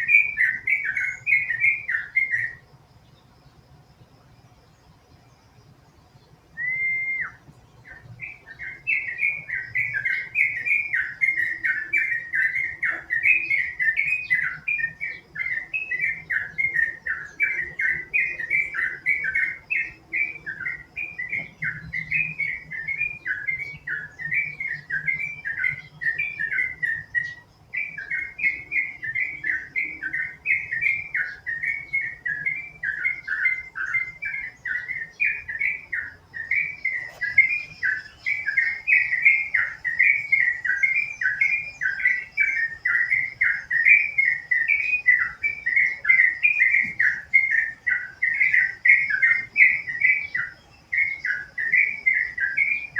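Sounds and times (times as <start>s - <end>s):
bird singing bubbling whistles: 0.0s - 2.7s, 6.5s - 52.9s.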